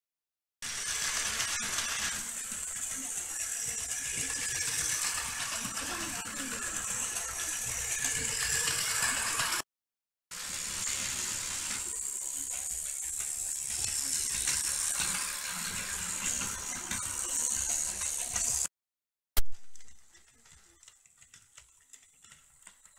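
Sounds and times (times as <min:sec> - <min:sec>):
toy train motor whirring: 0:00.6 - 0:09.6, 0:10.4 - 0:18.7, 0:19.9 - 0:22.9
toy train wheels rattling on track: 0:00.6 - 0:09.6, 0:10.4 - 0:18.7, 0:19.9 - 0:22.9.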